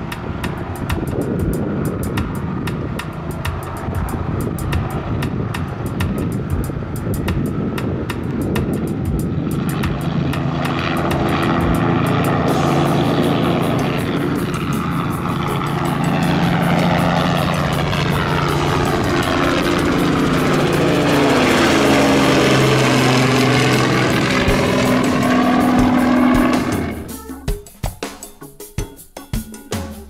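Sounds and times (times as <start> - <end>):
rotor blade chop: 0.0 - 27.4
helicopter flying overhead: 0.0 - 27.6.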